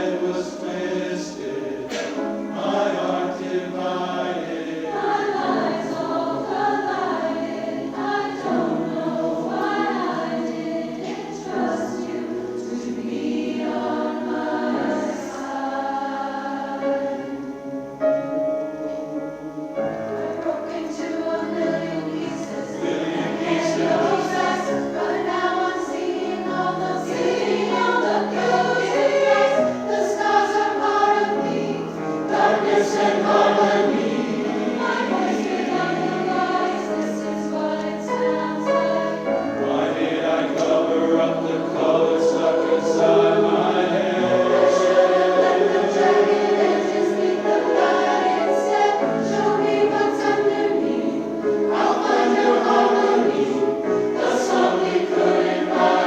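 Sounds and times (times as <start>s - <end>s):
chorus singing in parts: 0.0s - 56.0s.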